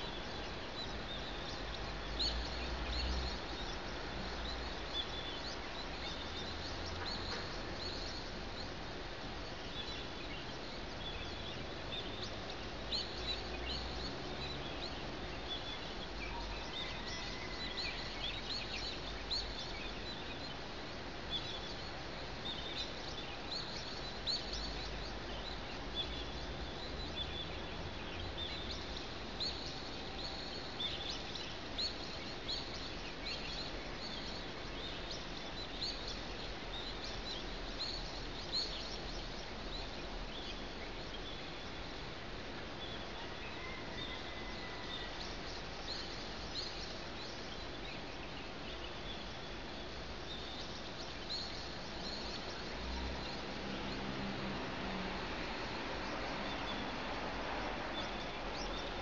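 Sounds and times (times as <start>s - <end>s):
small birds chirping: 0.0s - 57.2s.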